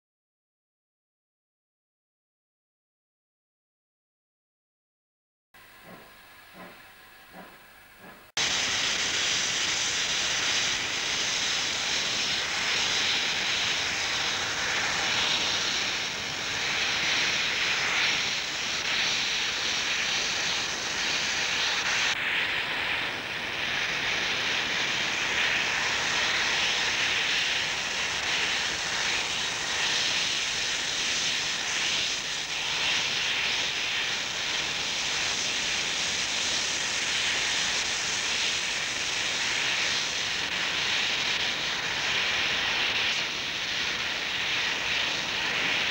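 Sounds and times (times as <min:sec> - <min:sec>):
steam locomotive hissing: 0:05.6 - 0:45.9.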